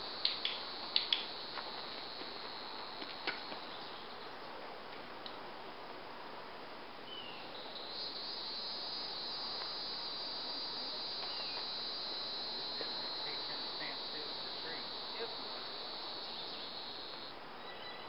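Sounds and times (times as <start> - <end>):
insects chirping: 0.0 - 4.4, 7.1 - 18.0
faint background hiss: 0.0 - 18.0.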